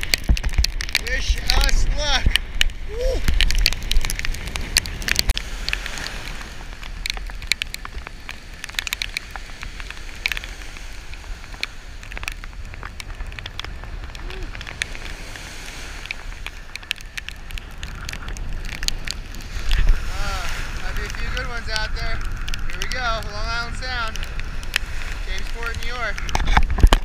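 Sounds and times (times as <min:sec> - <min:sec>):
breaking surf: 0:00.0 - 0:27.0
raindrops ticking on camera housing: 0:00.0 - 0:27.0.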